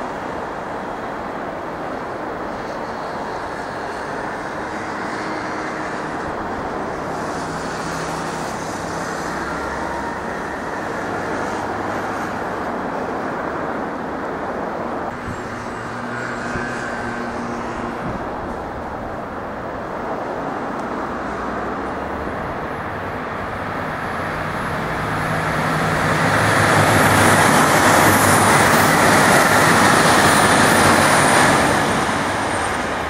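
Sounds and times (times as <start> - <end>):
low train engine hum: 0.0 - 33.0
train wheels rolling on rails: 0.0 - 33.0.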